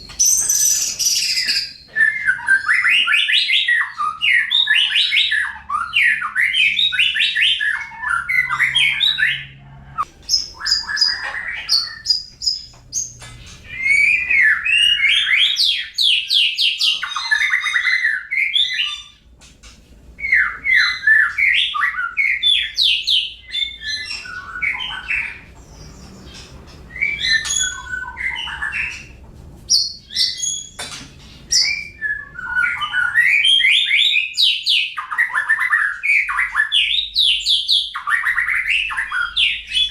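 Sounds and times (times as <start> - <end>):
songbird singing: 0.0 - 19.4, 20.2 - 39.9.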